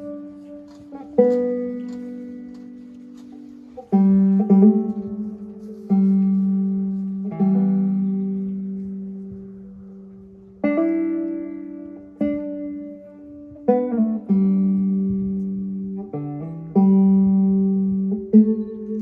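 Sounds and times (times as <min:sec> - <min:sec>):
banjo played slowly: 0:00.0 - 0:19.0.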